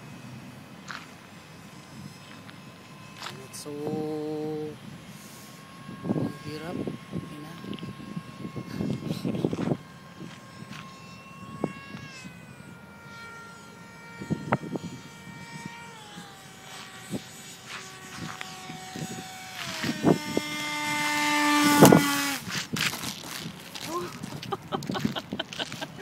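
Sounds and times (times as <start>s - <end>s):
electric model jet fan whine: 0.0s - 26.0s.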